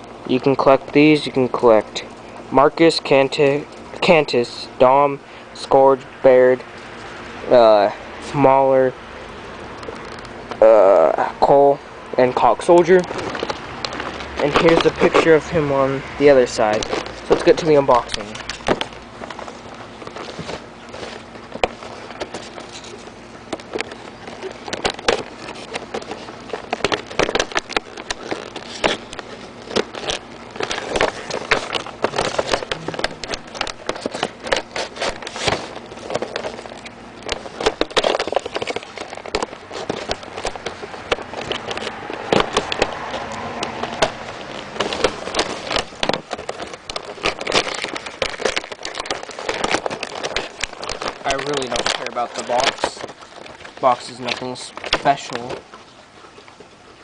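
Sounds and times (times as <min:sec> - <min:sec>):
cardboard and plastic packaging rustling: 0:00.0 - 0:57.0.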